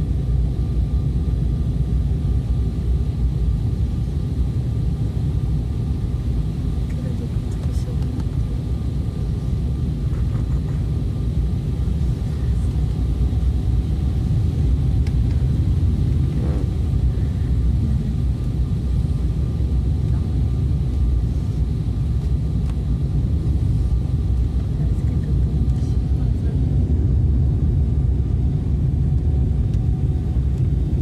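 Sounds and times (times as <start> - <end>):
airliner cabin rumble: 0.0 - 31.0
faint steady whine: 0.0 - 31.0.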